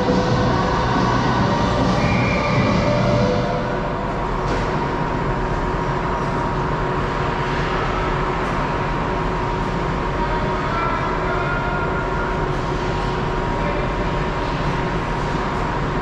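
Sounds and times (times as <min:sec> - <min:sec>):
continuous even rumble: 0:00.0 - 0:16.0.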